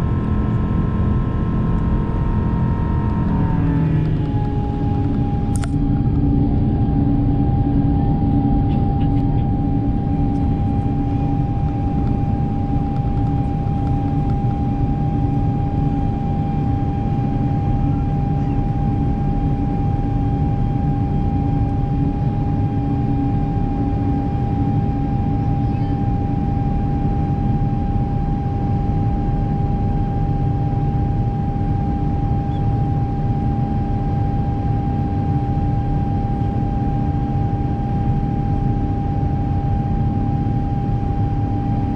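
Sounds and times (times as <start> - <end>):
airplane cabin rumble: 0.0 - 41.9
steady engine whine: 0.0 - 41.9.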